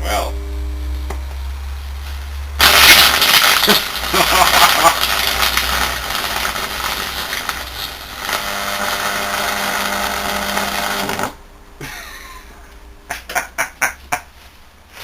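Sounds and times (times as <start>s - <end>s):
loud mains buzz with harsh hiss: 0.0s - 15.0s.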